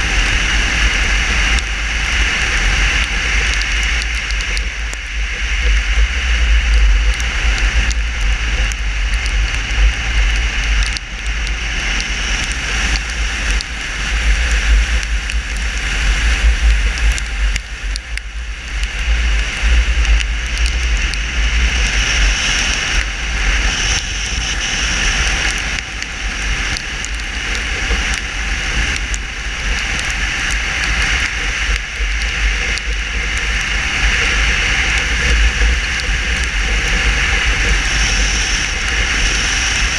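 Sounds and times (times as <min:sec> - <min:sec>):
tyre hiss on wet road: 0:00.0 - 0:39.9
wind buffeting microphone: 0:00.0 - 0:39.9.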